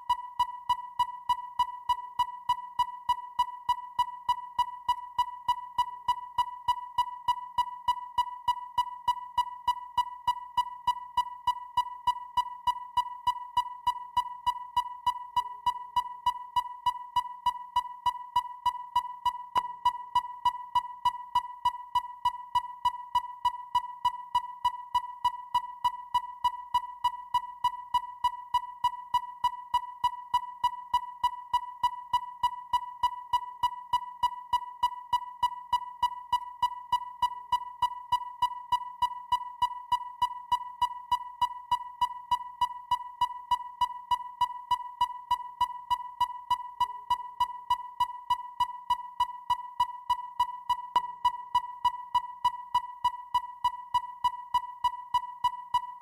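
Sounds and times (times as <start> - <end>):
sonar beeping: 0.0 - 56.0.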